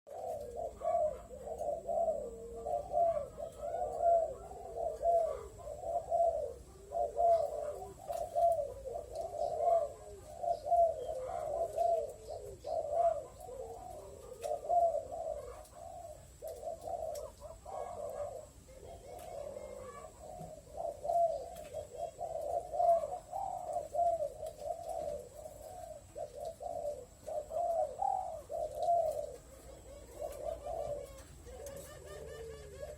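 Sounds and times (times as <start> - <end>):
doves cooing: 0.1 - 32.9.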